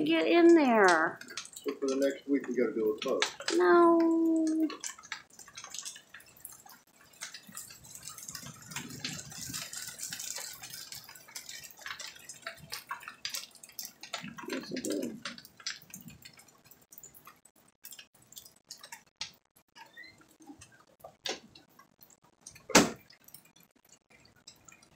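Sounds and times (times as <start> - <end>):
rainwater dripping: 0.0 - 24.9.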